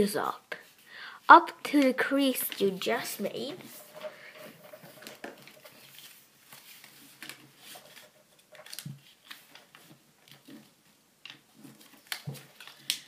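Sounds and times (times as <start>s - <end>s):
paper rustling and crackling: 1.6s - 13.0s.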